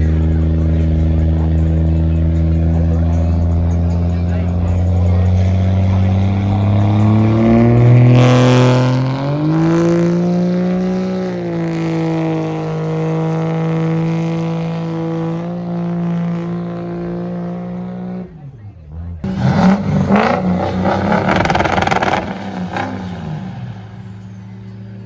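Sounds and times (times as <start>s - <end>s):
diesel truck engine revving: 0.0s - 25.0s.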